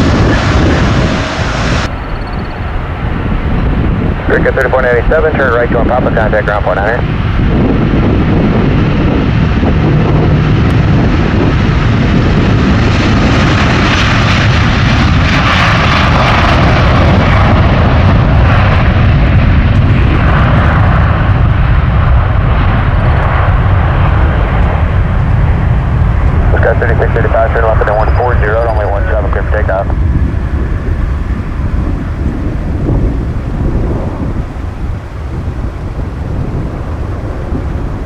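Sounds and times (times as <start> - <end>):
jet engine roar at takeoff: 0.0 - 38.0.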